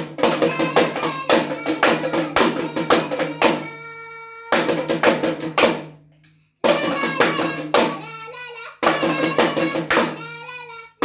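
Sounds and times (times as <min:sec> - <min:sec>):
girl singing: 0:00.0 - 0:05.4, 0:06.6 - 0:11.0
small drums beaten with sticks: 0:00.0 - 0:06.0, 0:06.6 - 0:10.6.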